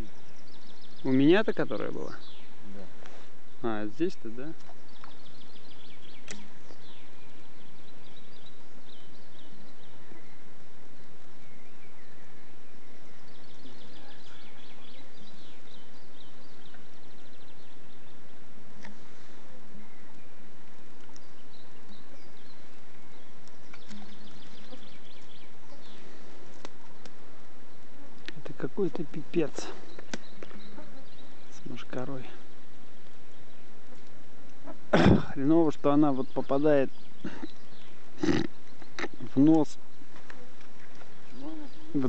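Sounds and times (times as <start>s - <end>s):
midges and flies buzzing: 0.0s - 42.0s
small birds chirping: 0.0s - 42.0s
steady hiss: 0.0s - 42.0s.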